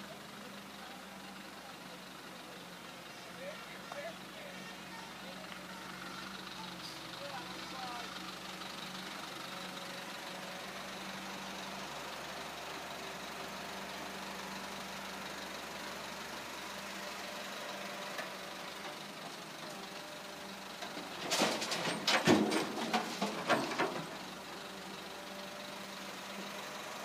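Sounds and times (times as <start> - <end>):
diesel truck engine idling: 0.0 - 21.2, 22.3 - 27.0.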